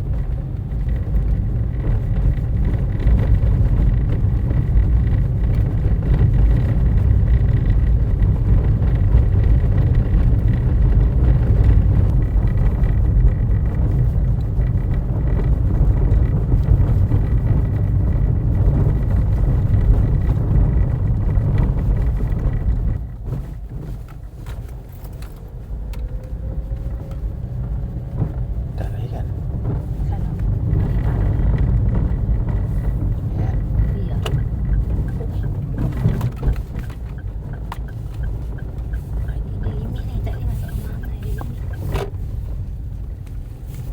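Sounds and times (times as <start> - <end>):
road and engine rumble inside car: 0.0 - 43.9.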